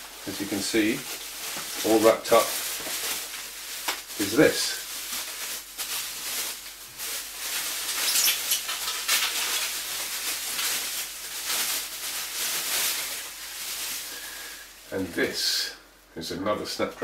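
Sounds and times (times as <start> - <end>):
bubble wrap crinkling: 0.0 - 15.4.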